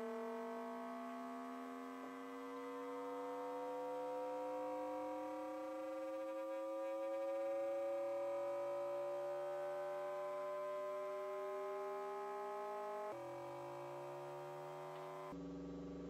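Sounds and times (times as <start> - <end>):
buzzy electronic oscillator tone: 0.0 - 16.0.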